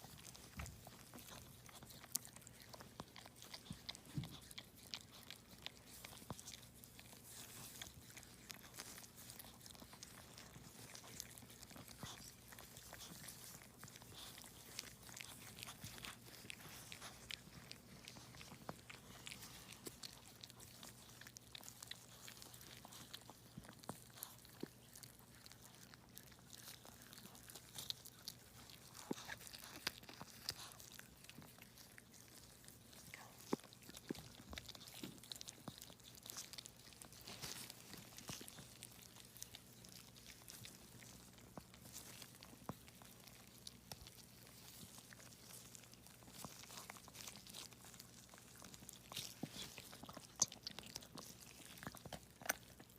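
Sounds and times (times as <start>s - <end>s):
dog chewing or licking: 0.0s - 52.9s
low steady hum: 0.0s - 52.9s.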